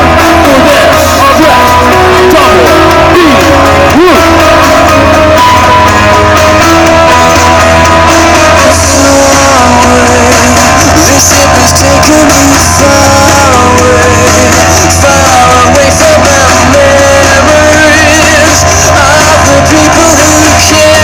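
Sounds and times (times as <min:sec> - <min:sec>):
loud music with guitar: 0:00.0 - 0:21.0
person singing: 0:00.0 - 0:21.0.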